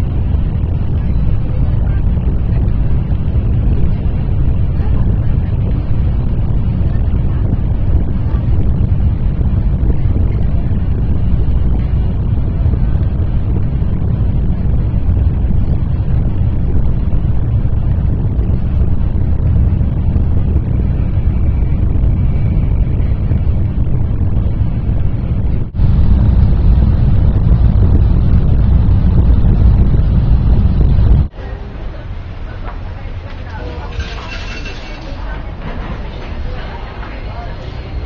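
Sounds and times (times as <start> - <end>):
train rumbling inside passenger car: 0.0 - 38.0.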